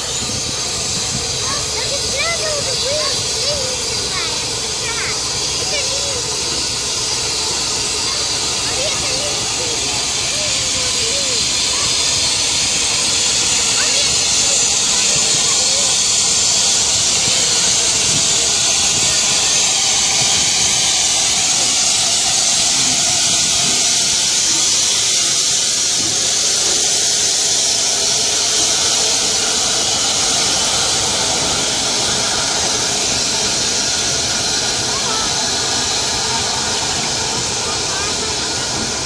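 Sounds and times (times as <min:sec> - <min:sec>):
steam locomotive hissing steam: 0:00.0 - 0:39.0.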